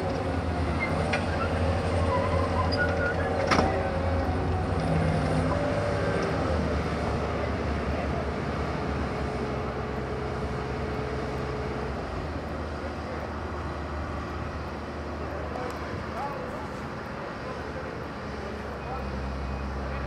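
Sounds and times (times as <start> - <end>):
heavy machinery diesel engines: 0.0 - 20.0.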